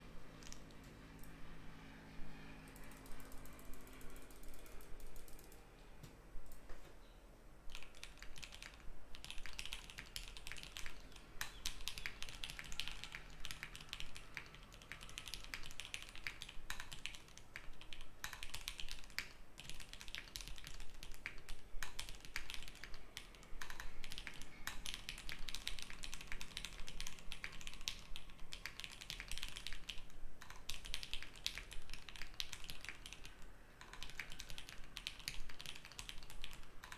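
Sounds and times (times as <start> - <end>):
mechanical keyboard typing: 0.4 - 1.4, 2.6 - 5.6, 7.7 - 36.9.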